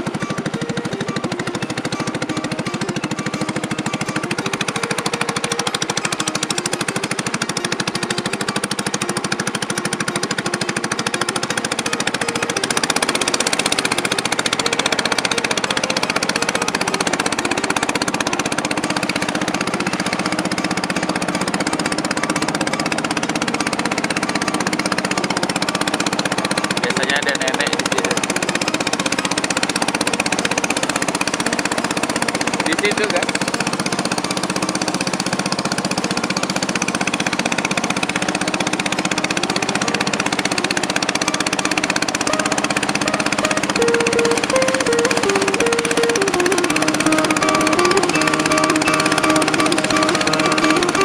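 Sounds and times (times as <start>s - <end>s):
boat engine pulsing: 0.0s - 51.0s.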